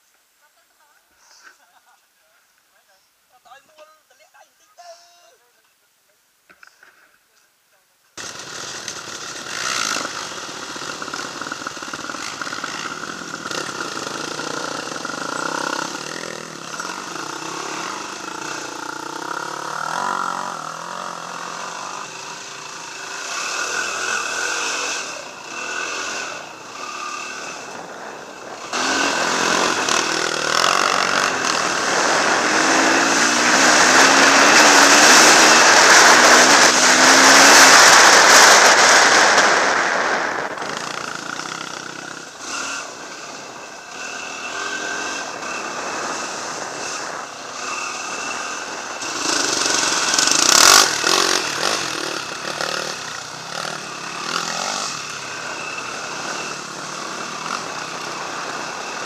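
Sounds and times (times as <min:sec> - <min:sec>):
dirt bike engine revving: 0:08.2 - 0:59.0
steady rushing noise: 0:08.2 - 0:59.0.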